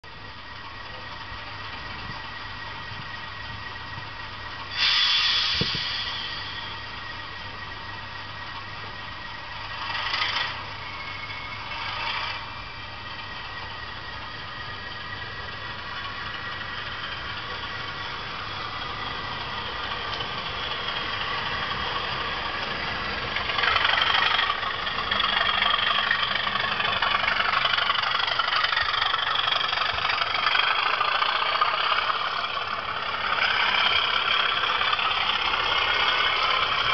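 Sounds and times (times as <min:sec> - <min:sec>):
diesel engine sound from speakers: 0:00.0 - 0:36.9.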